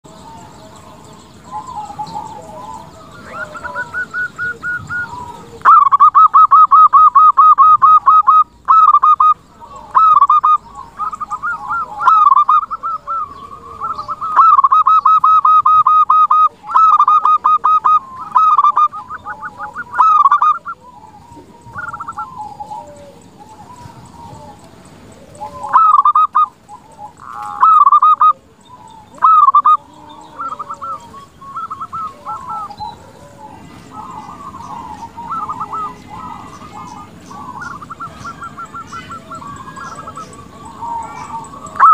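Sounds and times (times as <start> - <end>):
fainter lower bird calls: 0.0 - 41.9
dove cooing staccato notes: 0.1 - 41.9.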